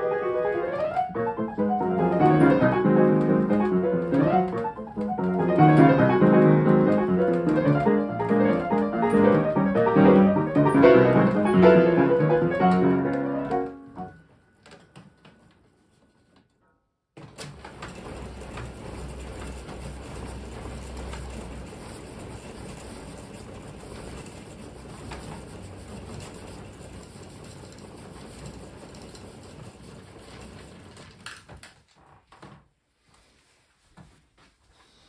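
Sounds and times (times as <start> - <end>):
player piano roll rewinding whir: 0.0 - 14.8, 17.2 - 31.2.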